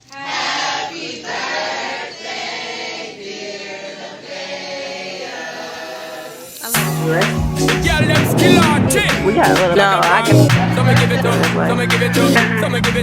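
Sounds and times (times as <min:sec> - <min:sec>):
choir singing held notes: 0:00.1 - 0:12.6.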